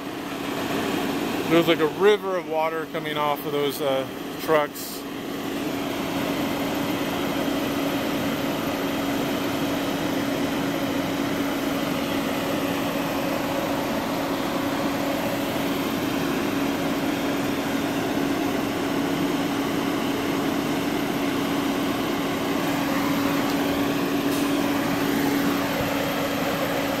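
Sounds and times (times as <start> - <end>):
fire truck engines humming: 0.0 - 27.0.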